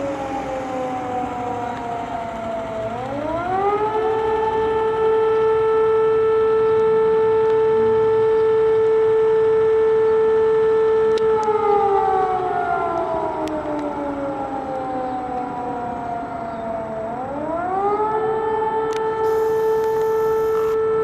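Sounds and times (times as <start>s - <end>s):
siren steady tone: 0.0s - 21.0s.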